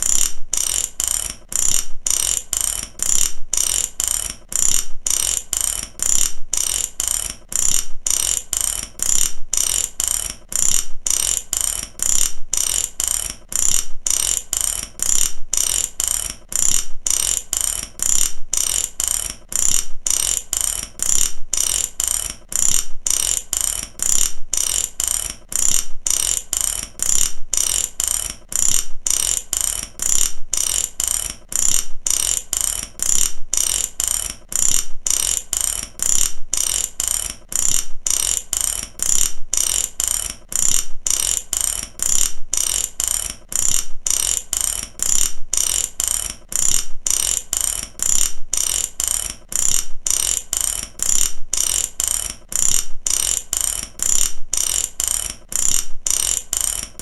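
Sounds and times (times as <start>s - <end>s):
ratchet wrench clicking: 0.0s - 57.0s.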